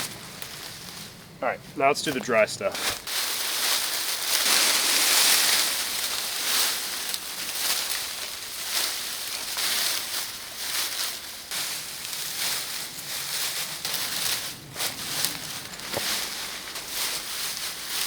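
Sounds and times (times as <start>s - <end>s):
dry leaves rustling and crunching: 0.0s - 18.0s.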